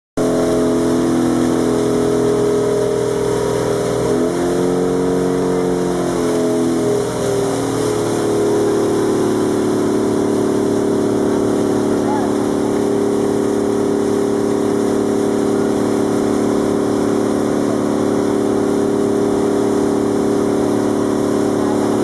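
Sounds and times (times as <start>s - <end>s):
boat engine running: 0.2s - 22.0s
water rushing along hull: 0.2s - 22.0s.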